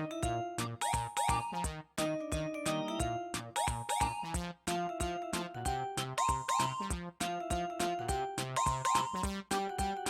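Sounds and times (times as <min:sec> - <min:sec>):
upbeat synth music: 0:00.0 - 0:10.0.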